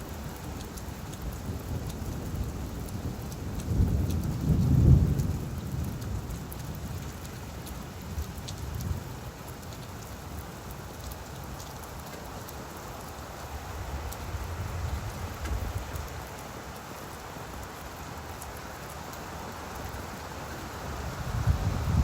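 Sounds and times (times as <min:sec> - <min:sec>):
rain pattering on leaves: 0:00.0 - 0:22.0.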